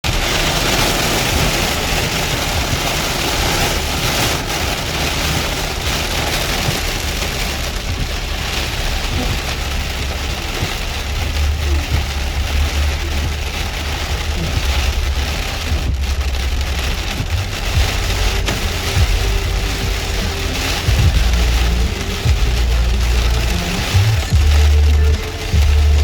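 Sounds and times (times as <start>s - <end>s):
heavy rain hissing: 0.0s - 26.0s
low vehicle rumble: 0.0s - 26.0s.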